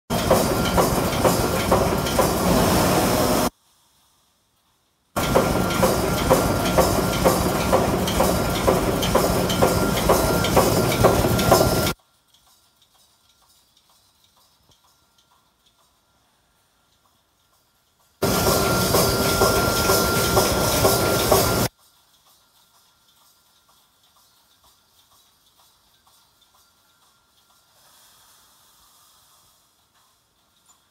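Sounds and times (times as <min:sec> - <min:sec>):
steady mechanical clatter: 0:00.1 - 0:03.5, 0:05.2 - 0:27.9.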